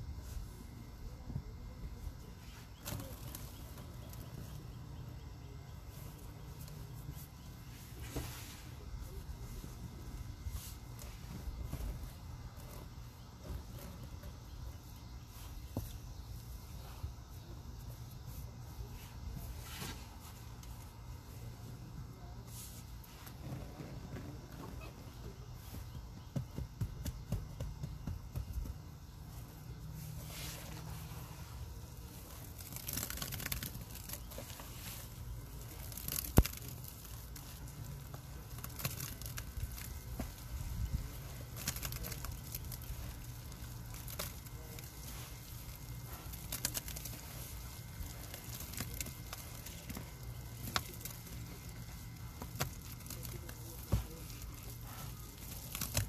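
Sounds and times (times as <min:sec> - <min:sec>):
dry powder crunching: 0:00.0 - 0:56.0.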